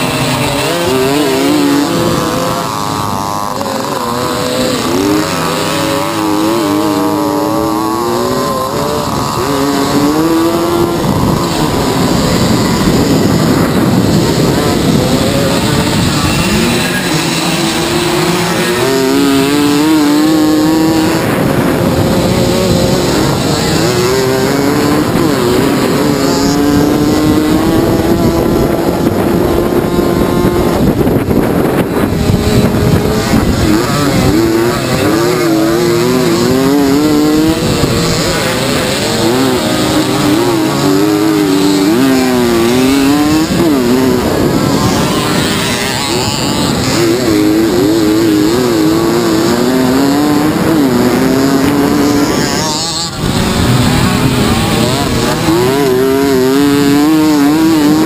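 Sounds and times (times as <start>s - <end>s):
moped engines revving: 0.0s - 58.0s.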